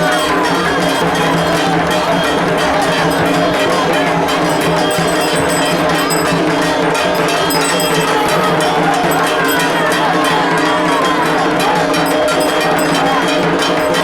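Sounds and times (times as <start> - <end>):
crowd voices: 0.0 - 14.0
festival music: 0.0 - 14.0
metal bells clanging: 0.0 - 14.0.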